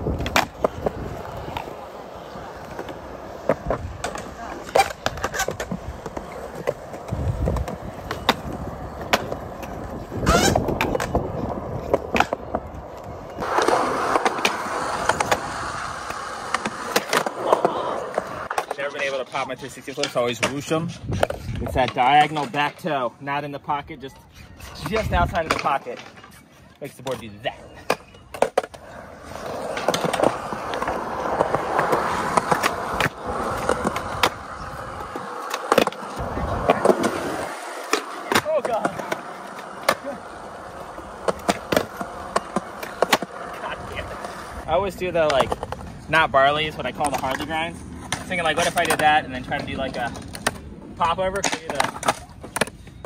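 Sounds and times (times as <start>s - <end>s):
skateboard scraping: 0.0s - 22.9s, 24.0s - 53.0s
skateboard trucks grinding: 0.0s - 23.5s, 24.1s - 53.0s
skateboard wheels rolling: 0.0s - 53.0s.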